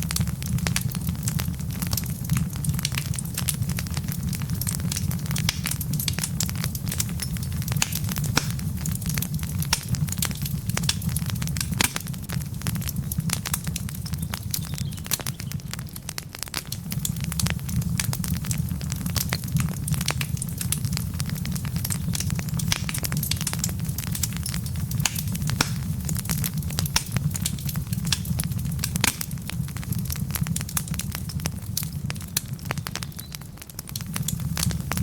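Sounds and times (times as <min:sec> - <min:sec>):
wood logs crackling in fireplace: 0:00.0 - 0:35.0.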